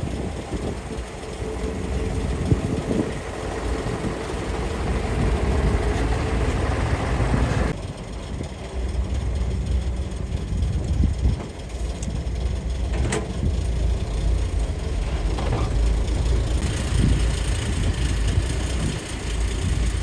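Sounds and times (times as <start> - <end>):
hydraulics whine and hiss: 0.0 - 7.8, 11.7 - 20.0
excavator diesel engine rumbling: 0.0 - 20.0.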